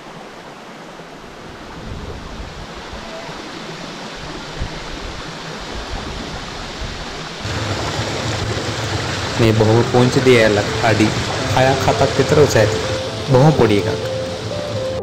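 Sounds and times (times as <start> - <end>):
river water running over rocks: 0.0 - 15.0.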